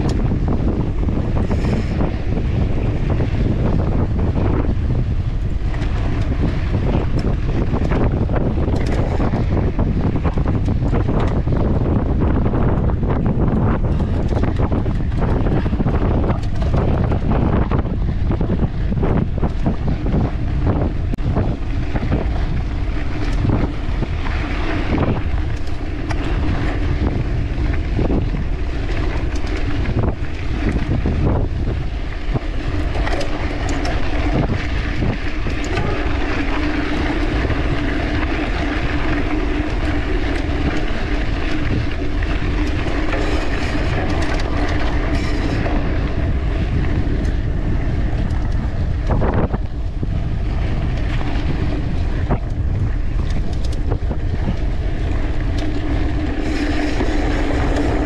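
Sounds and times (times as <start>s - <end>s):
bike rattling over bumps: 0.0s - 58.0s
steady hum: 0.0s - 58.0s
wind buffeting microphone: 0.0s - 58.0s.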